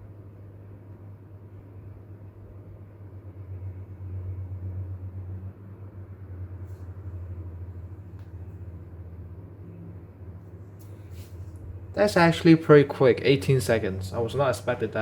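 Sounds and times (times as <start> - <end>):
computer cooling fans humming: 0.0 - 15.0.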